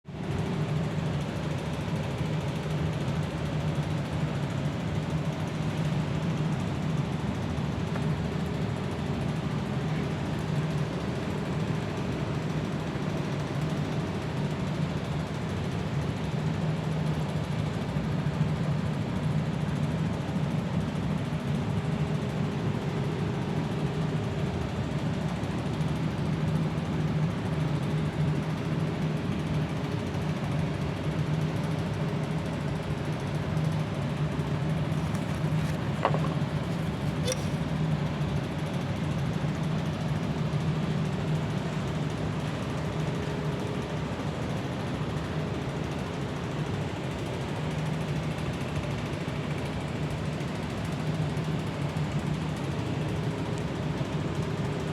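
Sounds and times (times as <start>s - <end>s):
rotary engine running steadily: 0.1s - 54.9s.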